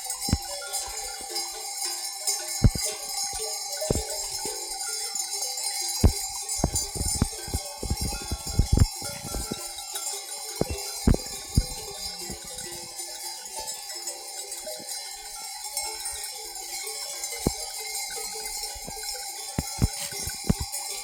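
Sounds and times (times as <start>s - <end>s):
livestock bells clanking: 0.0s - 20.1s.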